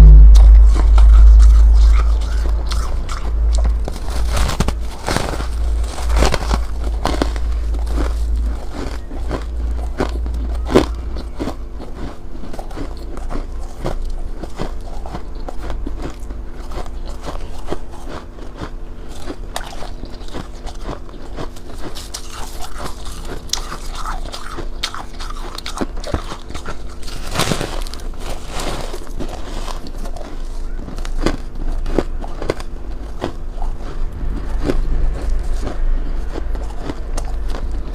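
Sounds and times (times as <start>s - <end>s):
faint steady hum: 0.0s - 37.9s
ice being chewed: 0.0s - 37.9s.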